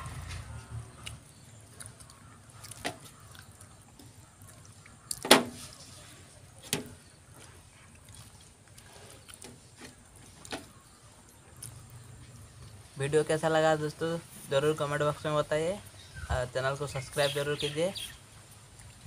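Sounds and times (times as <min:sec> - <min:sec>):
people eating and chewing: 0:00.0 - 0:16.0, 0:17.0 - 0:19.0.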